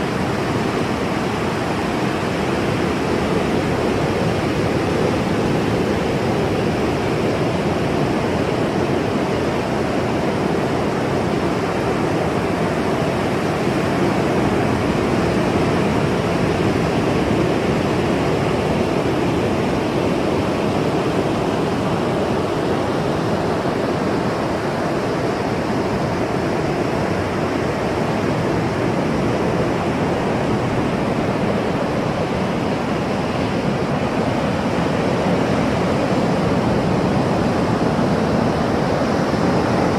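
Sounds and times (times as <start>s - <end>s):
ocean surf roar: 0.0s - 39.9s.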